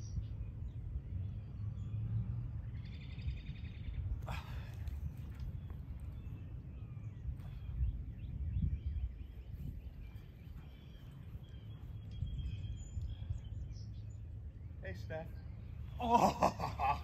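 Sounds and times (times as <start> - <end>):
wind rumble on microphone: 0.0 - 14.7
faint birds chirping: 0.0 - 17.0.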